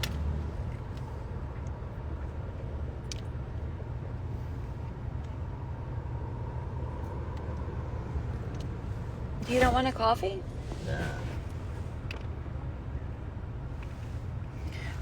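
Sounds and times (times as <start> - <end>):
road noise: 0.0 - 15.0
truck engine rumble: 0.0 - 15.0.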